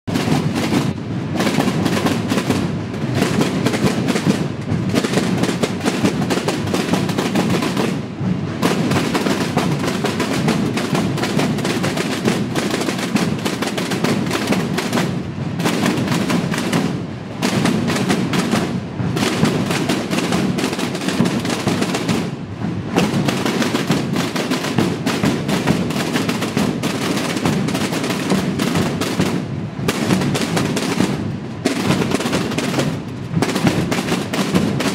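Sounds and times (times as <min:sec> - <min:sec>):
snare and bass drums beating: 0:00.0 - 0:34.9.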